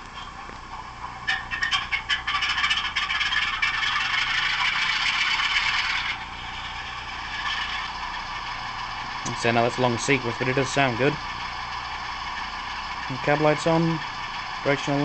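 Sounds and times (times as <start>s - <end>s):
diesel engine through small speaker: 0.0s - 15.0s.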